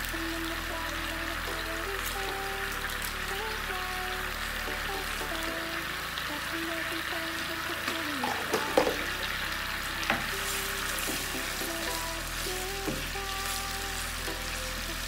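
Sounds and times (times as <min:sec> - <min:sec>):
sauce sizzling in a frying pan: 0:00.1 - 0:15.0.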